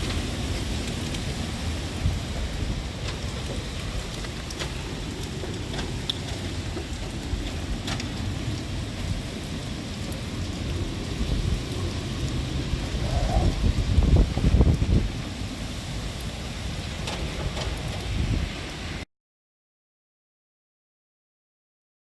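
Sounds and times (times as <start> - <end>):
steady rain: 0.0 - 19.1.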